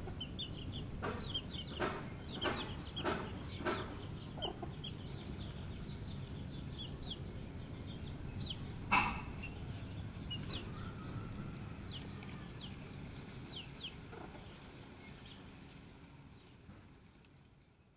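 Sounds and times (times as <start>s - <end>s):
chicks peeping: 0.0s - 15.8s
outdoor background noise: 0.0s - 17.9s.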